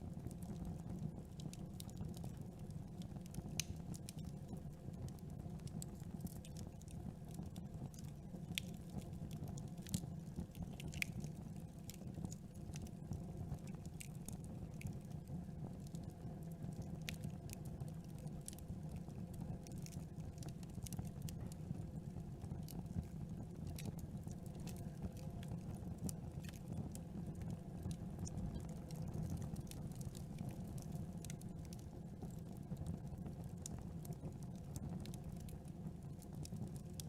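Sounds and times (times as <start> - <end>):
burning wood crackling and popping: 0.0 - 37.0
campfire flames rumbling: 0.0 - 37.0.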